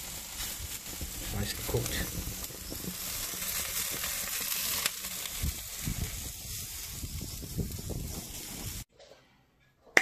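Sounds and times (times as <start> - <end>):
food sizzling on a grill: 0.0 - 8.9.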